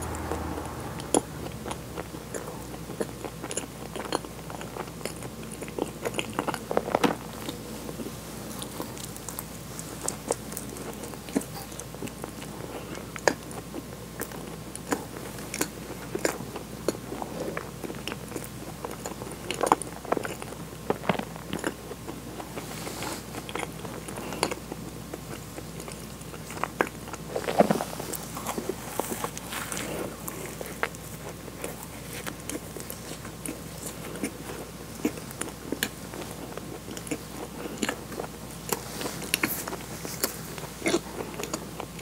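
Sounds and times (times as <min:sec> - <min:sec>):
person chewing with sticky smacks: 0:00.1 - 0:42.0.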